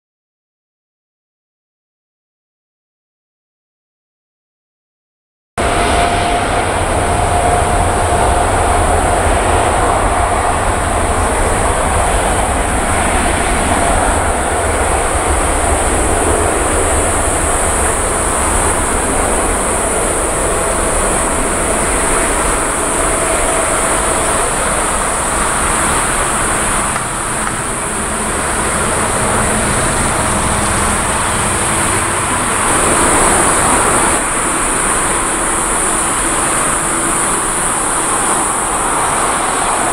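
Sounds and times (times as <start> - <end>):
distant jet engines rumbling: 5.6 - 39.9
constant high-pitched hiss: 5.7 - 39.9.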